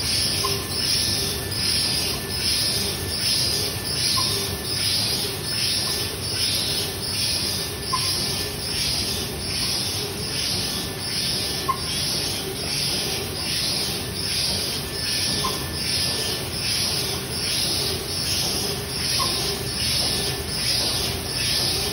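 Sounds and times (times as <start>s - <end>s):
machine mechanical din: 0.0s - 21.9s.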